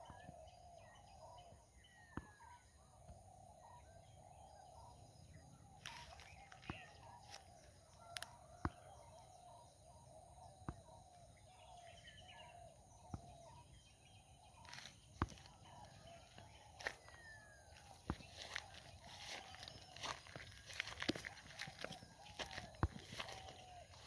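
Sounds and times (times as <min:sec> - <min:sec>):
bird chirps: 0:00.0 - 0:24.0.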